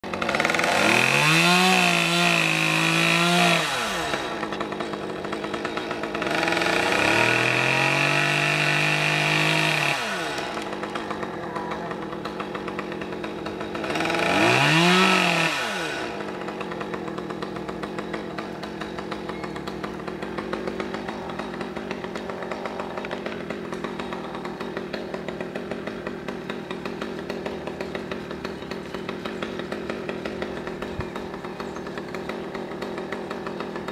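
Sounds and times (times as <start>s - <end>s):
chainsaw revving and idling: 0.0s - 33.9s.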